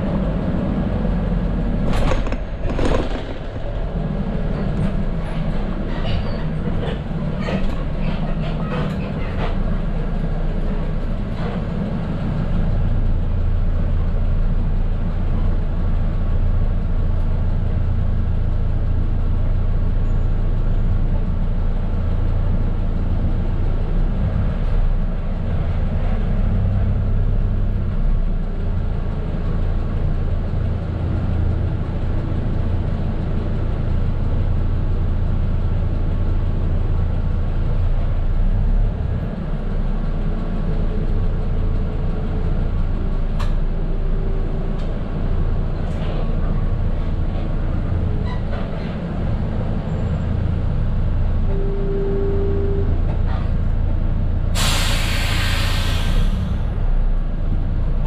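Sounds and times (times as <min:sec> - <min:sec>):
diesel bus engine rumbling: 0:00.0 - 0:58.0.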